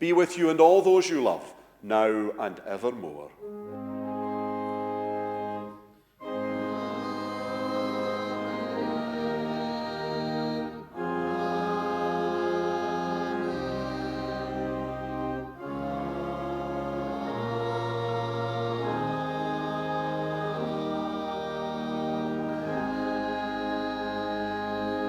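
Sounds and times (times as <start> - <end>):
church organ chords: 3.4 - 25.0.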